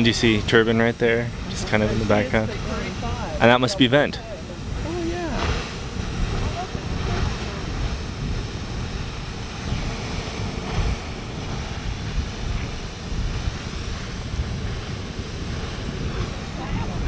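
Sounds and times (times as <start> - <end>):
deep uneven rumbling: 0.0 - 17.0
geyser water rushing: 0.0 - 17.0.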